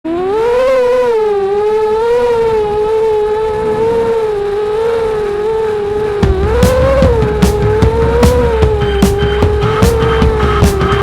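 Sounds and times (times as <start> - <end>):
quadcopter motors whining: 0.1 - 11.0.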